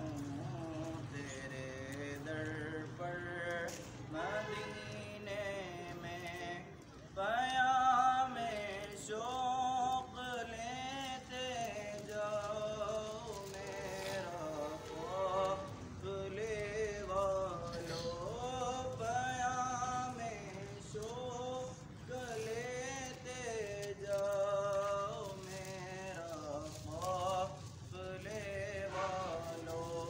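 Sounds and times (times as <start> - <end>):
person singing slow melody: 0.0 - 30.0.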